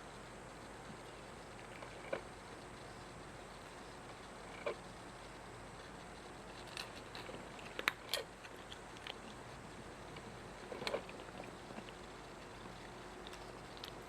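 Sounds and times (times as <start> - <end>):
cat chewing with crunchy clicks: 0.6 - 14.0.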